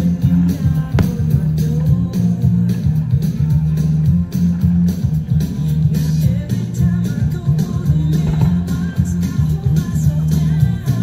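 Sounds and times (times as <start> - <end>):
music with guitar and bass: 0.0 - 11.0.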